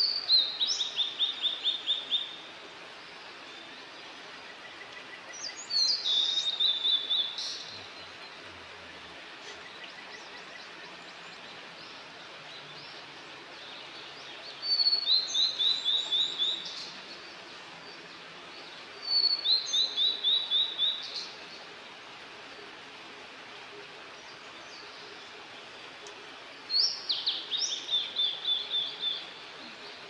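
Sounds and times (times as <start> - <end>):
songbird singing: 0.0 - 21.7, 24.0 - 30.0
steady outdoor hiss: 0.0 - 30.0.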